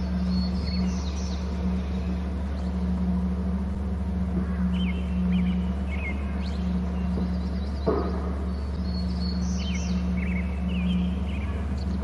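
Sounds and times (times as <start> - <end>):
faint bird chirps: 0.0 - 3.2, 4.2 - 12.0
steady low hum: 0.0 - 12.0.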